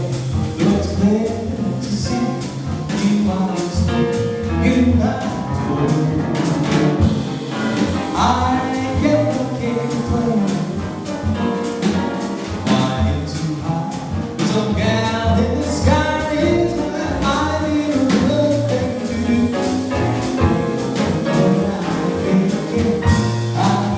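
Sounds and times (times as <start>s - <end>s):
jazz band accompaniment: 0.0s - 23.9s
man singing jazz: 0.0s - 23.9s.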